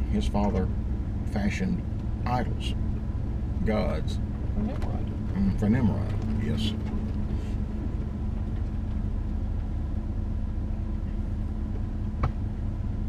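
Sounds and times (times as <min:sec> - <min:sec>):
faint steady hum: 0:00.0 - 0:13.0
vehicle engine and road rumble: 0:00.0 - 0:13.0.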